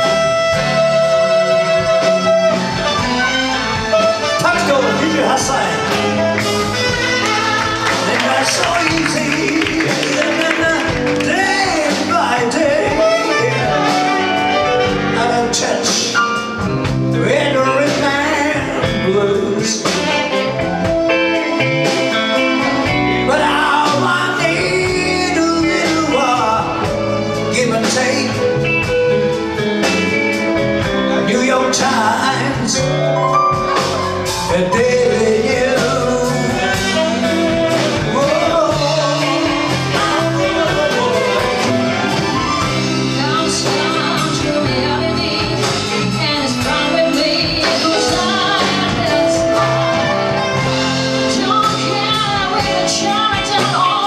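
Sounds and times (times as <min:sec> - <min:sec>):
live band playing: 0:00.0 - 0:54.0
person singing: 0:04.1 - 0:28.7, 0:29.5 - 0:54.0.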